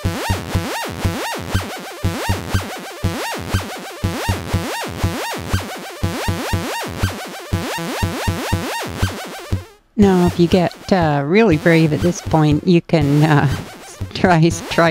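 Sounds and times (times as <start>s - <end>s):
low thumps: 0.0s - 14.9s.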